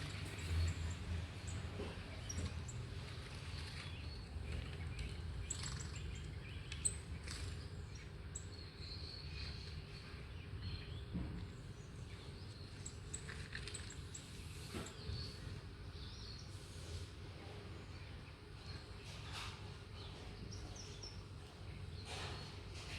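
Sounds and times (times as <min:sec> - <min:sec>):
birds chirping through speaker: 0:00.0 - 0:22.9.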